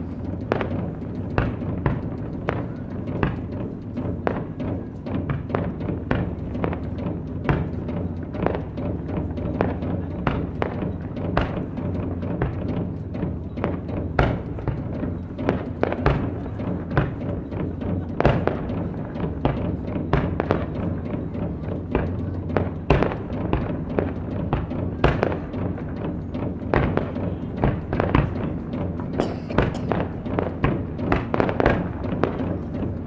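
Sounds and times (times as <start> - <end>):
fireworks bursts popping: 0.0 - 33.0
low background noise: 0.0 - 33.0
taiko drumming: 0.0 - 33.0.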